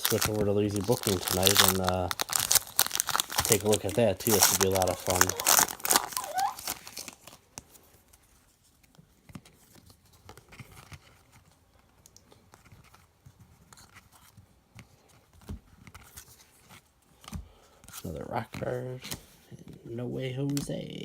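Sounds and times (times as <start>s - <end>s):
trading cards rustling and clicking: 0.0s - 20.8s.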